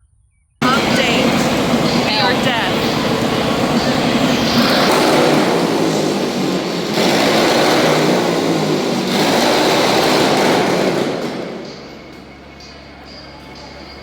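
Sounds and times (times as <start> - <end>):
vehicle rushing noise: 0.6 - 12.4
low engine hum: 0.6 - 14.0.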